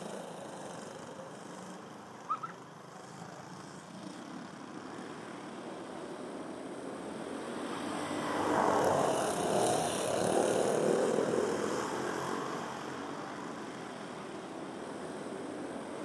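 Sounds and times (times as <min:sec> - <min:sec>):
go-karts passing: 0:00.0 - 0:16.0.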